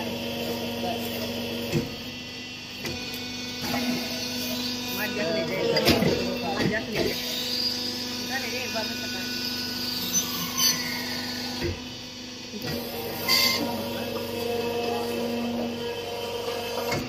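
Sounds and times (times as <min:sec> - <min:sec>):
brick-making machine humming: 0:00.0 - 0:17.0.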